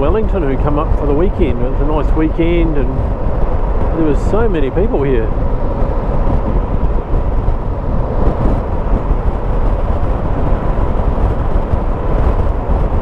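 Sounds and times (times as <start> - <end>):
motorcycle cruising: 0.0 - 13.0
wind and road rush: 0.0 - 13.0.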